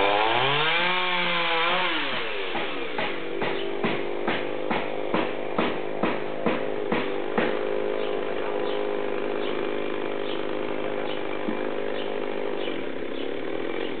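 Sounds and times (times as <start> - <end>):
chainsaw running: 0.0 - 14.0.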